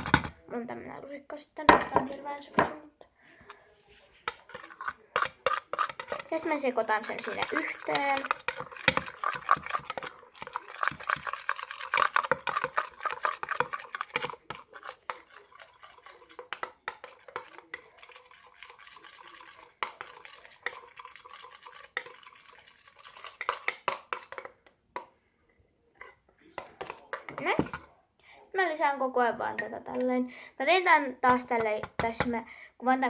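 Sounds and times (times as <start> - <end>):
spoon stirring and scraping bowl: 0.0 - 0.4, 1.8 - 25.2, 26.0 - 28.0, 29.4 - 32.4.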